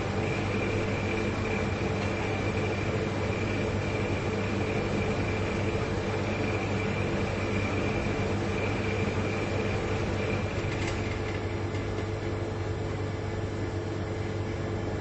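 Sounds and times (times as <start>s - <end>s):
refrigerator compressor hum: 0.0s - 15.0s.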